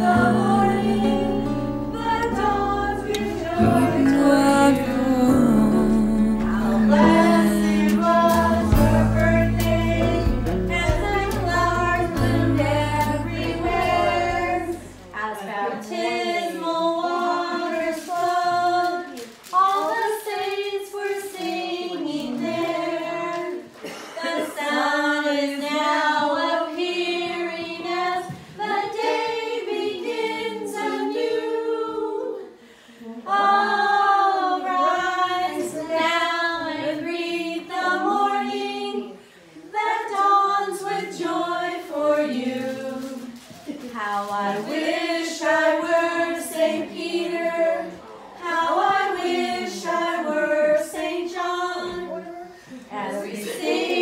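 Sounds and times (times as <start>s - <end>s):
voices singing in harmony: 0.0s - 54.0s.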